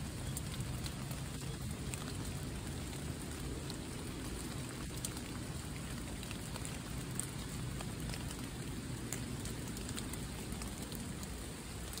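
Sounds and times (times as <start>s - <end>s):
rain on wet leaves: 0.0s - 12.0s.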